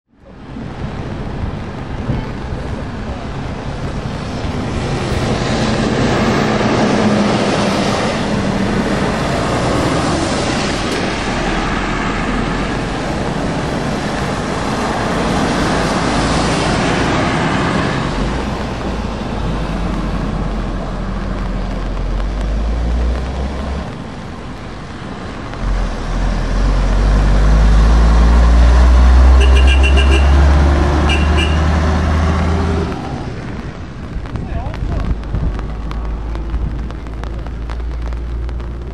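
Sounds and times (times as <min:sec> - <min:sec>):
truck diesel engines: 0:00.2 - 0:38.9
tyres hissing on wet road: 0:00.2 - 0:38.9.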